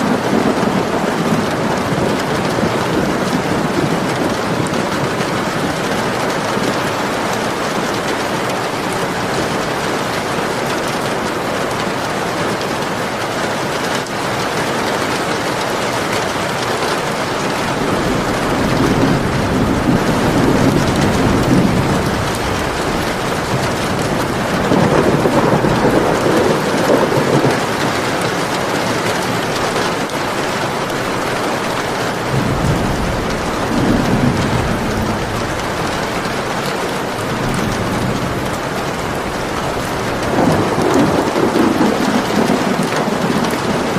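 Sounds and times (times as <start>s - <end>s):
thunder rumbling: 0.0s - 13.2s, 16.5s - 43.9s
heavy rain: 0.0s - 43.9s.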